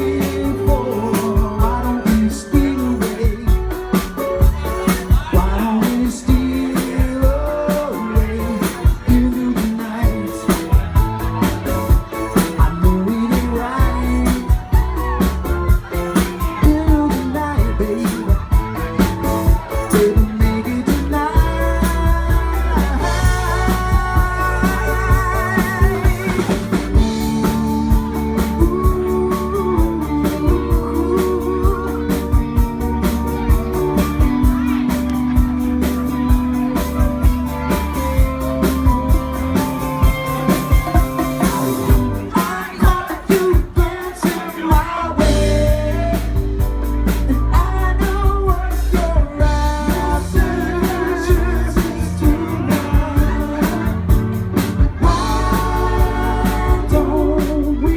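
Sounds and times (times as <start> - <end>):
live soft rock band: 0.0 - 57.9
person singing: 0.0 - 57.9.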